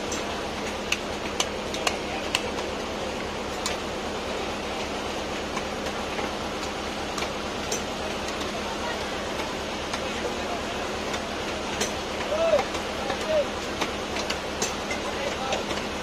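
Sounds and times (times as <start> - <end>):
fish market background noise: 0.0 - 16.0.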